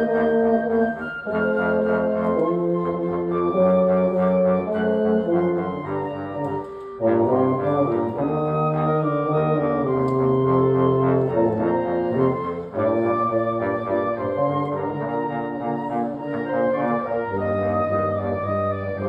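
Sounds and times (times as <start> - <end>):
brass and clarinet ensemble: 0.0 - 19.0.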